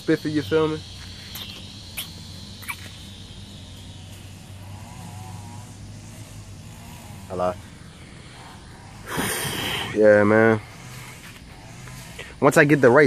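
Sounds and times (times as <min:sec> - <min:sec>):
high insect buzz: 0:00.0 - 0:13.0
low hum: 0:00.0 - 0:13.0.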